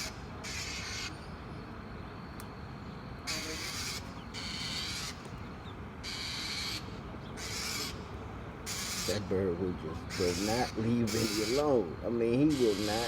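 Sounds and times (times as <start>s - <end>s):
bird harsh raspy calls: 0.0s - 1.7s, 3.2s - 13.0s.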